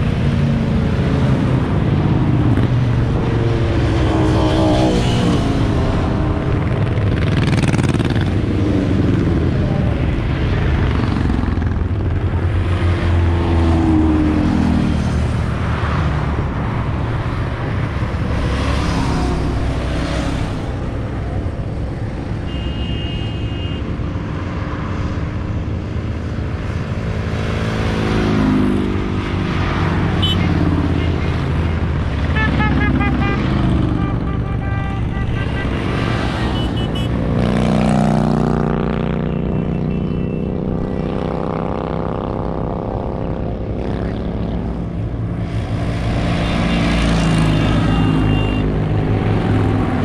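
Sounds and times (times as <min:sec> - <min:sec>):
motorcycles passing by: 0:00.0 - 0:50.0.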